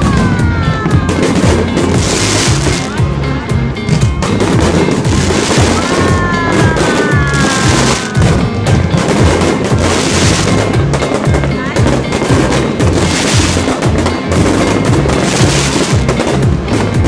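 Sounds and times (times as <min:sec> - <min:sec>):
fireworks banging and crackling: 0:00.0 - 0:17.0
music with prominent bass: 0:00.0 - 0:17.0.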